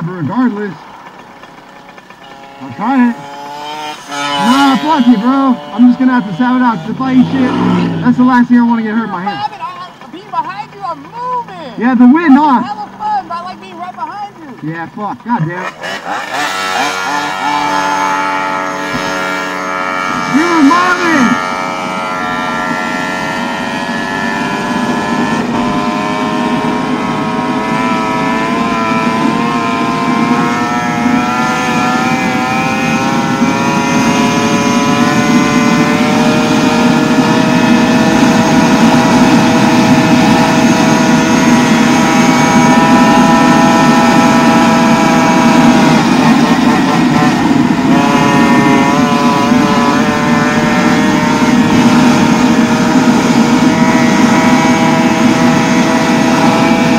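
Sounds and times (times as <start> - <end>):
two-stroke engine revving high: 0.0 - 56.9.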